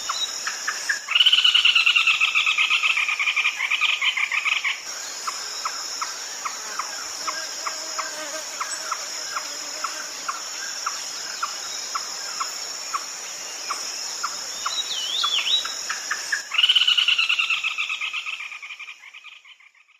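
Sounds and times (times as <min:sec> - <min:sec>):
high insect drone: 0:00.0 - 0:19.6.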